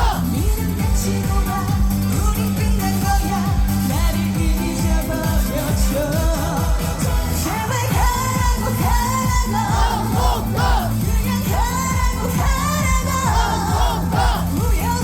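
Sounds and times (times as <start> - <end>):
amplified backing track with beat: 0.0 - 15.0
woman singing with vibrato: 0.0 - 15.0.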